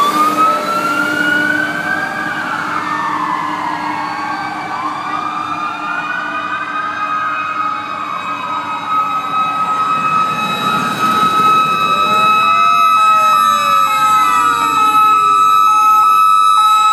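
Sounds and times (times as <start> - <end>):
fire truck sirens wailing: 0.0 - 16.9.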